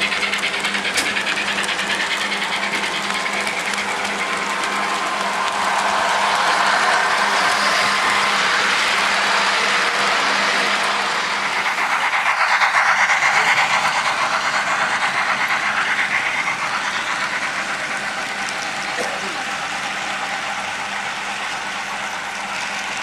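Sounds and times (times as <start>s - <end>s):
model train whirring on track: 0.0s - 23.0s.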